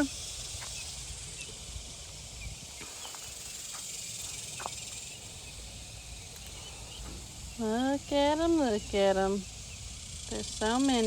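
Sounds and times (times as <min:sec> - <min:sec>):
insects hissing: 0:00.0 - 0:11.0.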